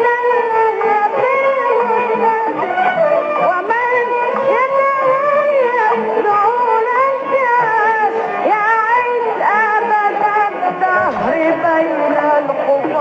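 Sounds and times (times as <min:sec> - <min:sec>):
song on am radio: 0:00.0 - 0:13.0.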